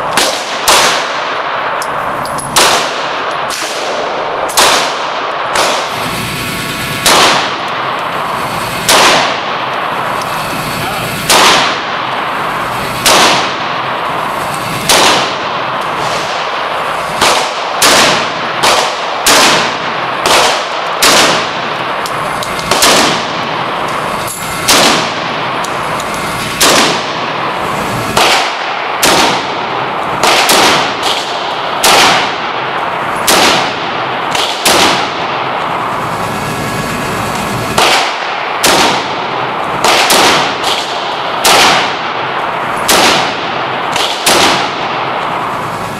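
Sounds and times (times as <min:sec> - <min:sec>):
gunshots echoing indoors: 0:00.0 - 0:37.0, 0:37.7 - 0:45.9.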